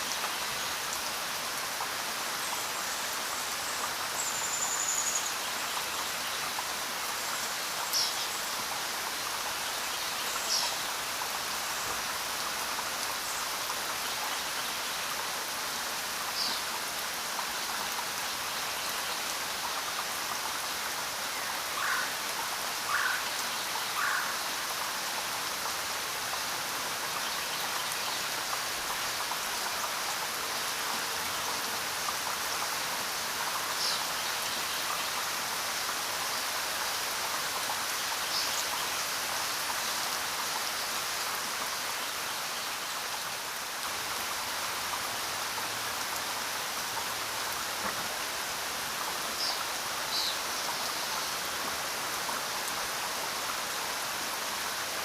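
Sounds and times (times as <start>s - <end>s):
rain on road and foliage: 0.0s - 55.0s.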